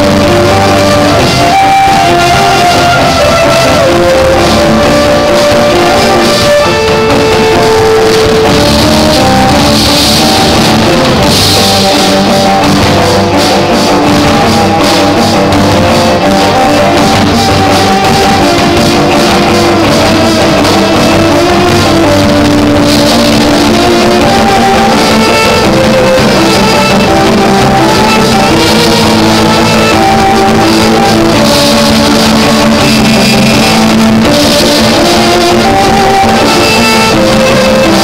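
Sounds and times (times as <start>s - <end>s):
bowed cellos playing: 0.0s - 38.0s
drum kit with cymbal crashes: 0.0s - 38.0s.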